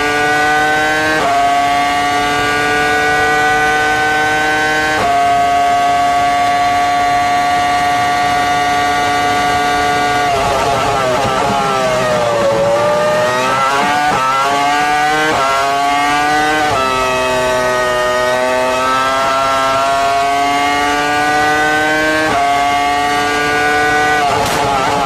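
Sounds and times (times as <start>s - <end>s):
racing car engine at high revs: 0.0s - 25.0s.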